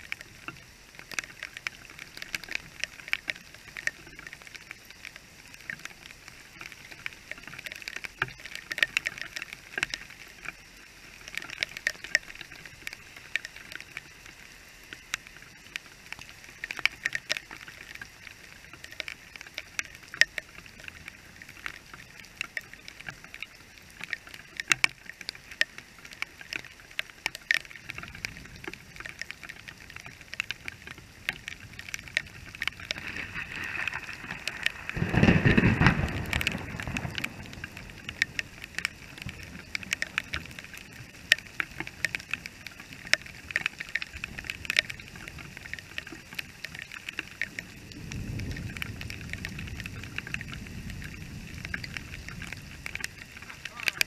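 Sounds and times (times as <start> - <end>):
heavy rain pattering: 0.0 - 54.0
raindrops ticking near microphone: 0.0 - 54.0.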